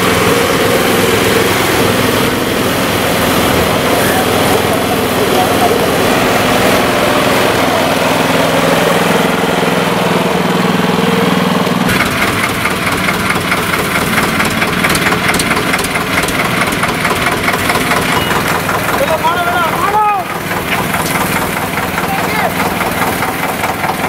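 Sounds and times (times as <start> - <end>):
engine with quick regular beat: 0.0 - 24.0
tractor engine running: 0.0 - 24.0.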